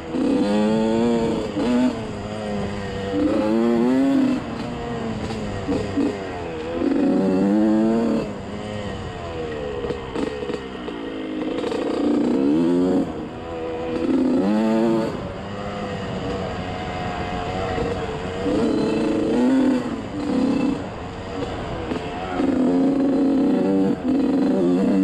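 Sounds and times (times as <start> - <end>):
small engine revving: 0.0 - 25.0.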